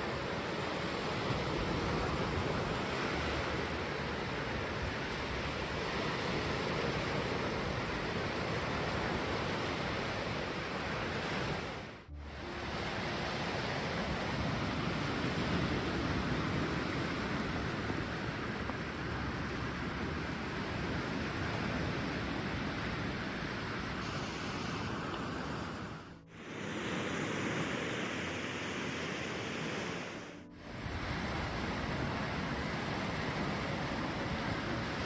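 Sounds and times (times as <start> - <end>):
sea waves washing on shore: 0.0 - 35.0.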